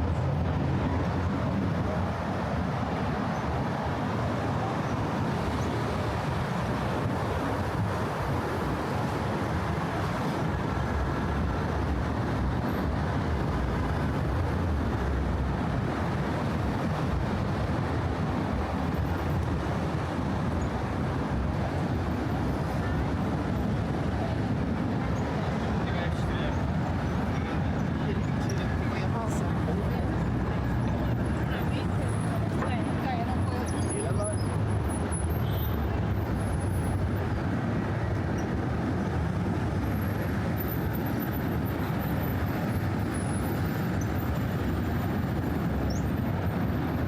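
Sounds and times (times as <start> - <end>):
traffic rumble of tyres and engines: 0.0 - 47.0.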